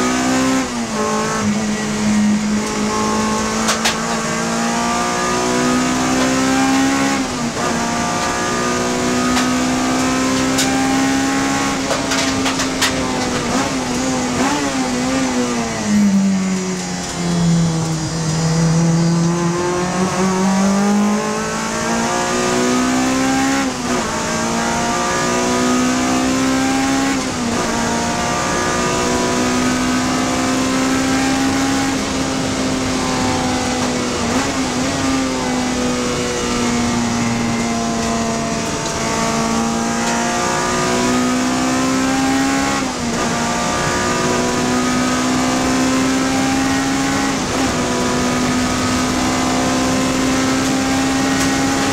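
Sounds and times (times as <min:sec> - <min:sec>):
race car engine at high revs: 0:00.0 - 0:51.9.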